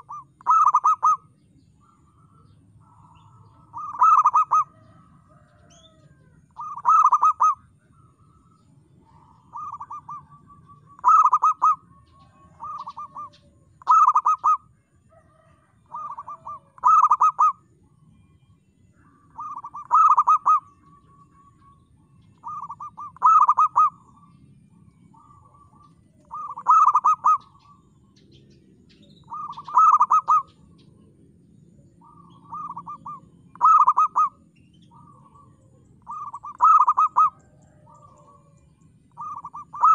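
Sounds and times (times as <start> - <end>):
dove cooing: 0.0 - 18.0, 19.0 - 28.0, 29.0 - 31.1, 31.8 - 39.9.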